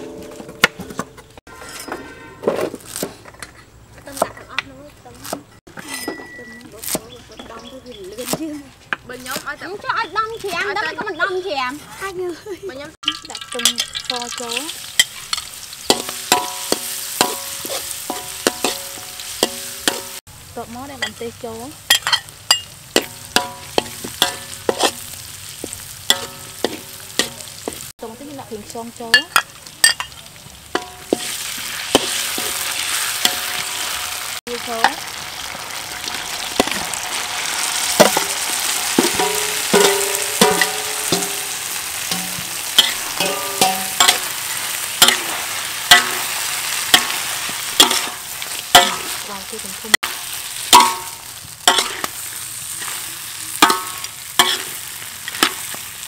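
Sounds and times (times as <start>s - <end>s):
metal spatula scraping a wok: 0.0s - 4.4s, 5.2s - 7.4s, 13.2s - 20.2s, 21.9s - 27.9s, 29.8s - 56.0s
garlic frying in hot oil: 6.8s - 11.7s, 12.8s - 56.0s.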